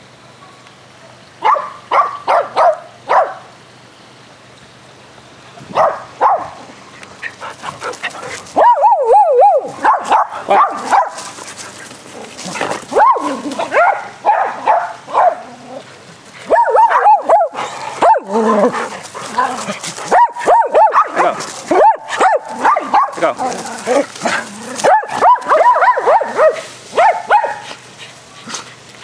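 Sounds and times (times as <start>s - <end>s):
dogs barking and yipping: 1.4s - 3.5s, 5.6s - 29.0s.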